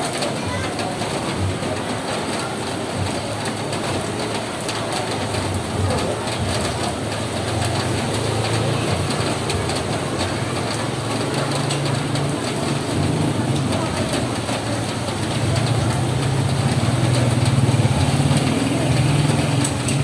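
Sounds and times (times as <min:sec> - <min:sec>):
rain pattering on a roof: 0:00.0 - 0:20.0.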